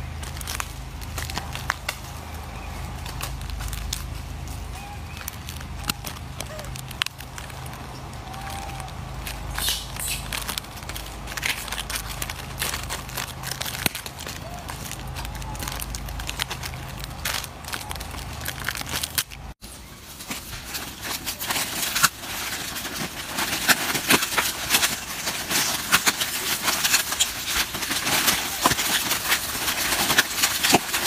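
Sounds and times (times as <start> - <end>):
plastic wrappers crinkling: 0.0 - 31.0.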